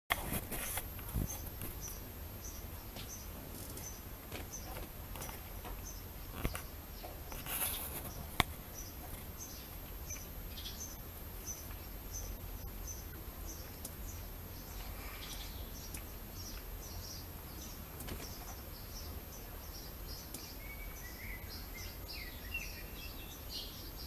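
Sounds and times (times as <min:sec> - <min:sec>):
small bird chirping: 0:00.5 - 0:24.0.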